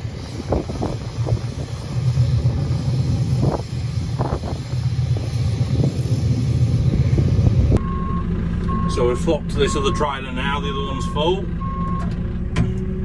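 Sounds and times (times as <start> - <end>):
farm machinery rumbling: 0.0 - 13.0.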